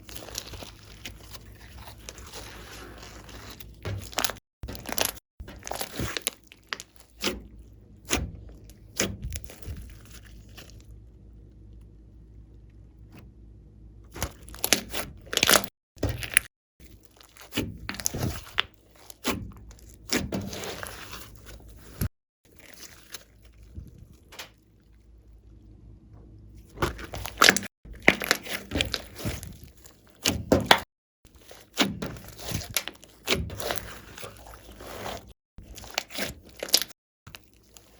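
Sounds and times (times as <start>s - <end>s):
slime crackling and squelching: 0.0s - 11.0s, 14.1s - 25.6s, 26.6s - 37.9s.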